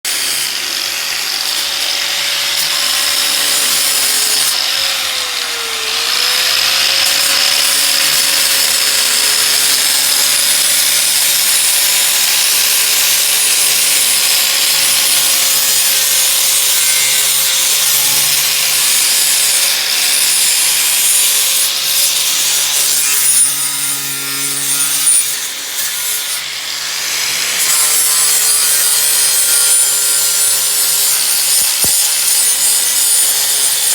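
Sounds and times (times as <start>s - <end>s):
power sander grinding metal: 0.1s - 33.9s.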